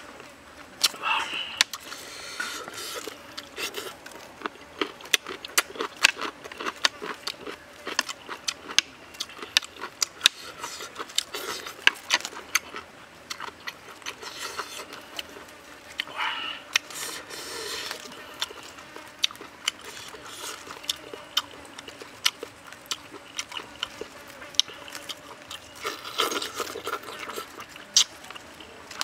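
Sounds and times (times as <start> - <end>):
person chewing with wet smacks: 1.6 - 29.0.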